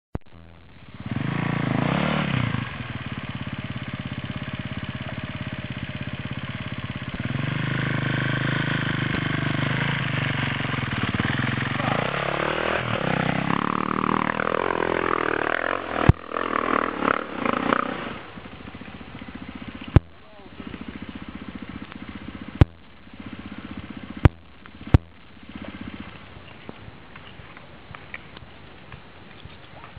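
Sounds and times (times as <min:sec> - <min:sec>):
dirt bike engines revving: 0:00.3 - 0:29.9.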